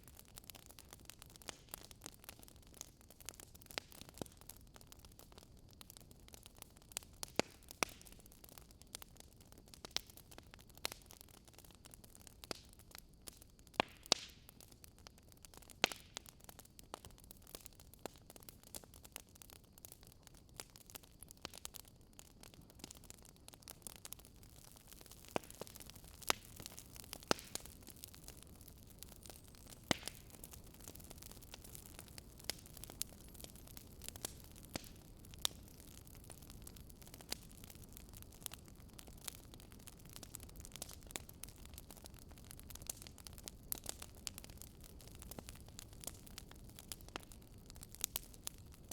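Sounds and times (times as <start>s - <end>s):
faint steady hiss: 0.0s - 48.9s
wood fire crackling: 0.0s - 48.9s.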